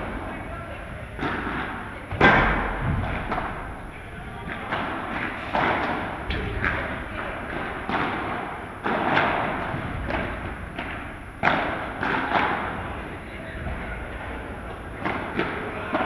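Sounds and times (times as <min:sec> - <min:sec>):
balls struck with paddles: 0:00.0 - 0:16.0.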